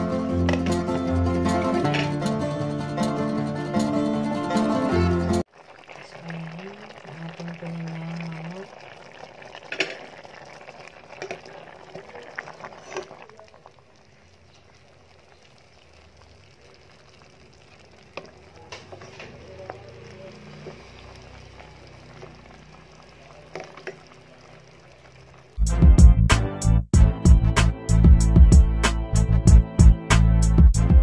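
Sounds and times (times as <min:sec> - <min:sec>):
stew simmering and bubbling: 0:00.0 - 0:26.5.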